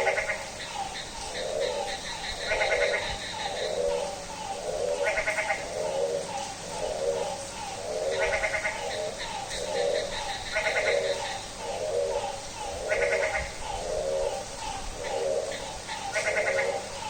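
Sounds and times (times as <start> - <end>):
frogs bleating calls: 0.0 - 17.0
higher rattling frog call: 0.0 - 17.0.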